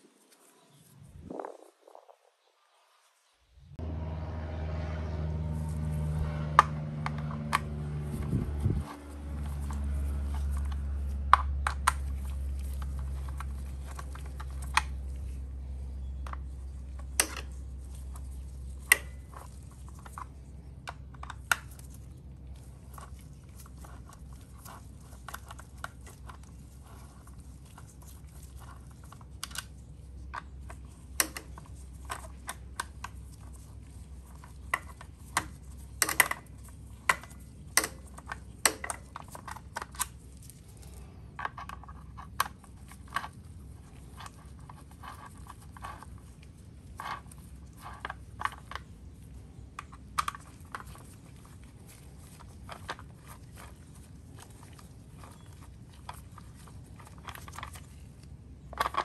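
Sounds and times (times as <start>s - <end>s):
low steady hum: 3.5s - 59.0s.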